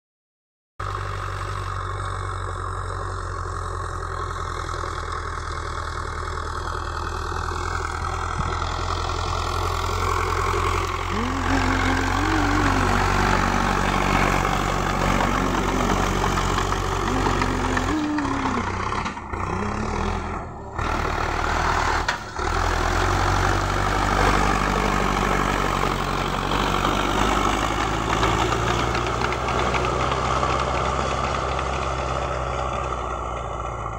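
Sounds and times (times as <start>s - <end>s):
tractor diesel engine under load: 0.8s - 33.9s.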